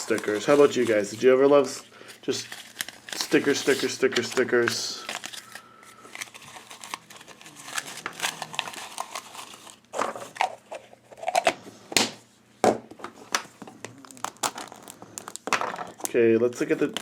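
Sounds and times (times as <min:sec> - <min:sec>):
paper and plastic crinkling: 0:00.0 - 0:11.6, 0:13.0 - 0:17.0.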